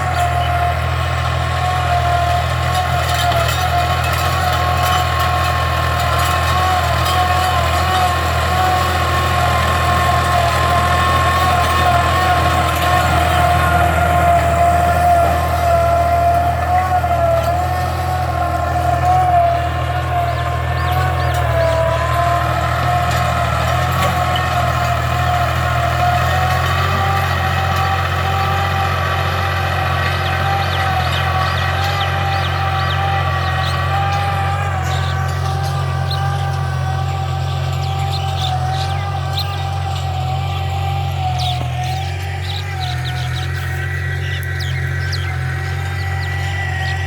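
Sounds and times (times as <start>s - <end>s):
tractor engine drone: 0.0s - 47.0s.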